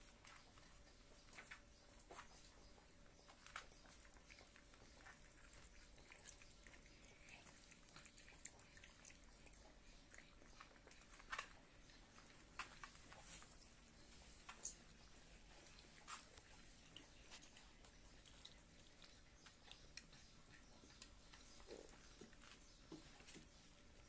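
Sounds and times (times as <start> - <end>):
puppies crunching food: 0.0 - 24.0.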